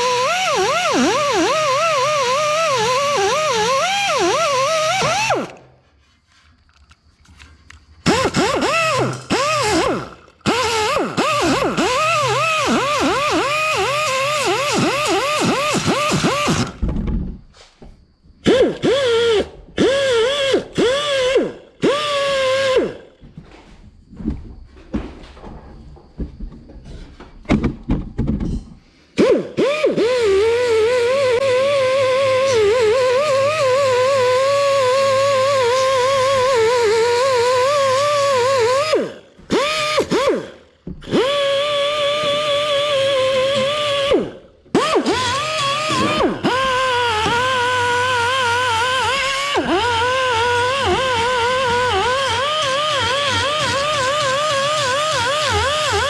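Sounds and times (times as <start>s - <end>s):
power grinder on sheet metal: 0.0s - 5.7s, 8.0s - 16.8s, 18.5s - 23.0s, 29.2s - 56.0s.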